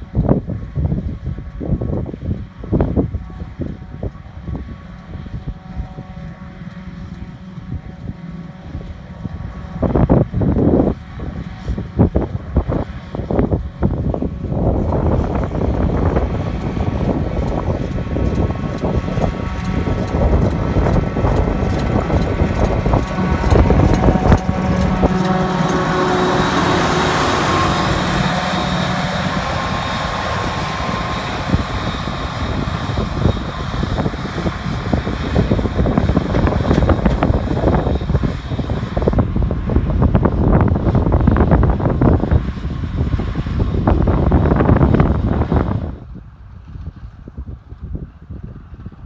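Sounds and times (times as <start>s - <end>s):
harvester machine drone: 0.0s - 49.0s
wind buffeting microphone: 0.0s - 49.0s.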